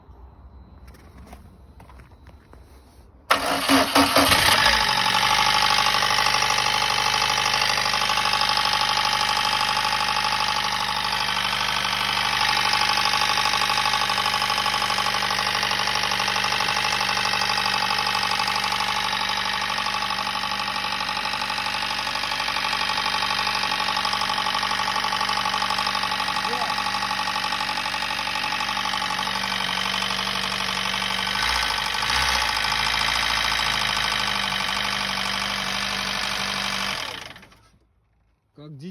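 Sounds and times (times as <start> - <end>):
car engine cranking and idling: 0.8 - 38.7.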